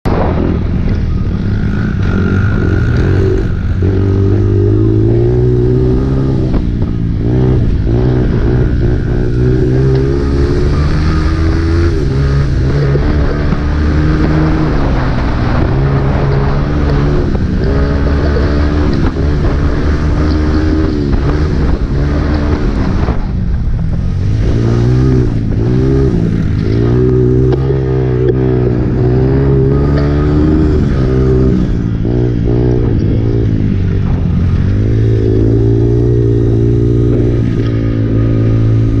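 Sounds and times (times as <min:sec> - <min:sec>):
dirt bike engine revving: 0:00.1 - 0:23.3, 0:24.2 - 0:39.0.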